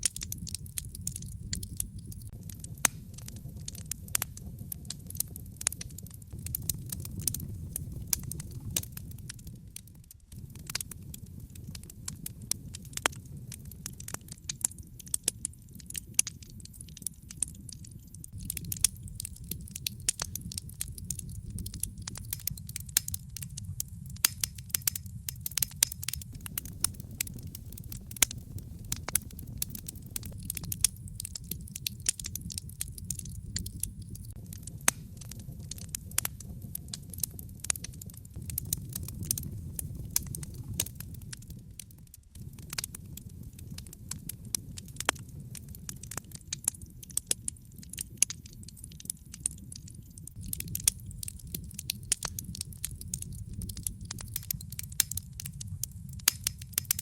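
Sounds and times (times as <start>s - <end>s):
low rumble of burning: 0.0s - 57.0s
wood fire crackling and popping: 0.0s - 57.0s.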